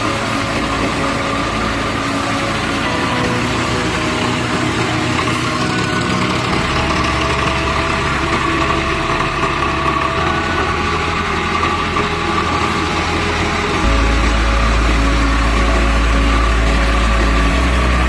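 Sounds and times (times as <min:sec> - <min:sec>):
thresher drum whirring: 0:00.0 - 0:18.0
tractor diesel engine running: 0:00.0 - 0:18.0.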